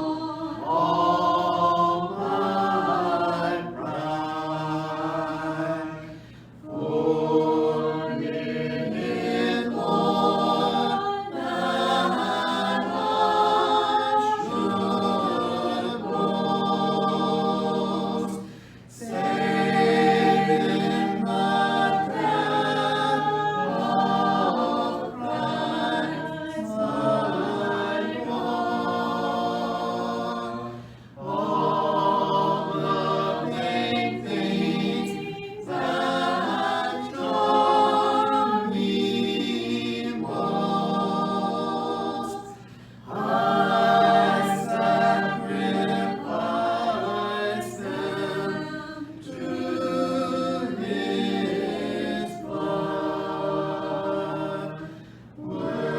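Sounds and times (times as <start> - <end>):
voices singing a hymn a cappella: 0.0 - 55.9.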